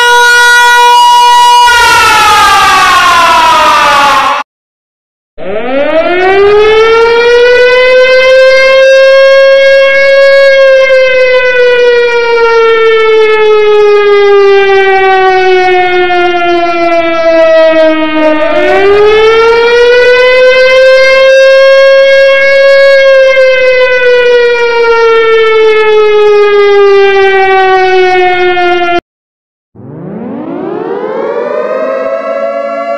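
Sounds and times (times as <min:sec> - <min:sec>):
siren wailing: 0:00.0 - 0:04.4, 0:05.4 - 0:29.0, 0:29.8 - 0:32.9.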